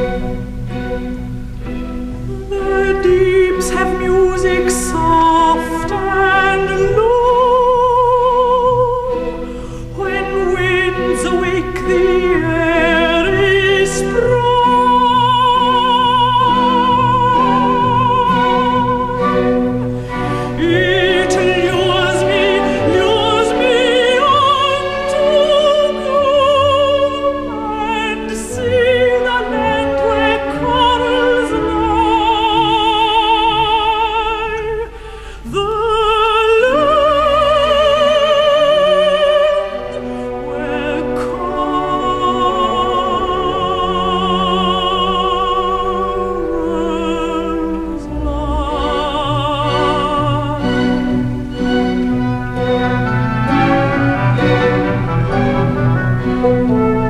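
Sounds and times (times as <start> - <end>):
instrumental accompaniment: 0.0 - 57.0
woman singing operatically: 2.3 - 51.5.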